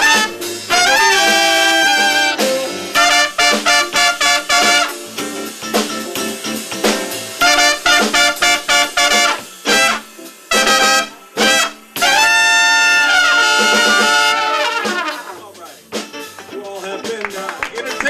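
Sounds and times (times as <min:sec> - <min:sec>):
horn section playing stabs: 0:00.0 - 0:16.3.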